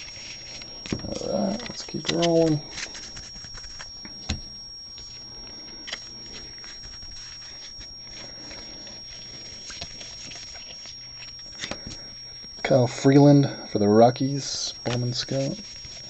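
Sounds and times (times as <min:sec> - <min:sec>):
trading cards rustling: 0:00.0 - 0:12.6, 0:14.8 - 0:16.0
high-pitched whine: 0:00.0 - 0:16.0
steady low hum: 0:00.0 - 0:16.0.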